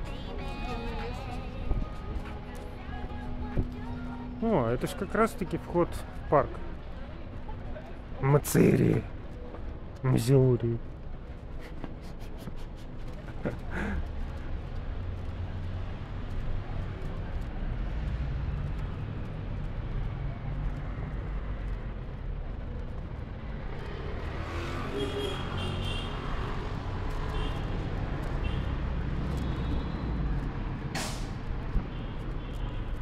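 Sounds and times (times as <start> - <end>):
rumble of passing cars: 0.0 - 33.0.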